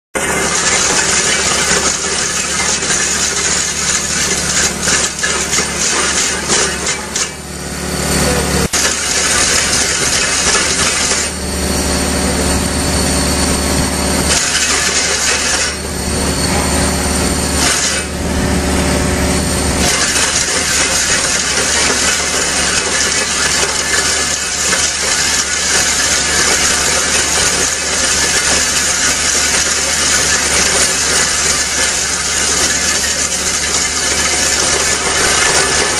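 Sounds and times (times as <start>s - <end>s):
drum cutter grinding concrete: 0.2s - 35.9s
excavator engine humming: 0.2s - 35.9s.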